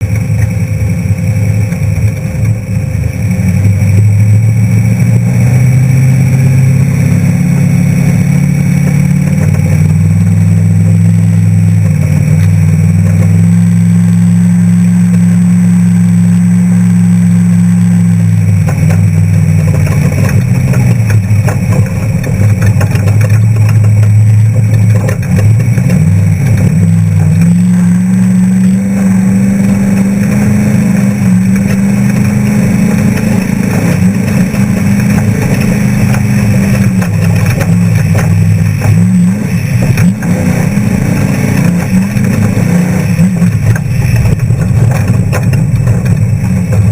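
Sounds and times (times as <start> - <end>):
truck engine running hard: 0.0 - 46.9.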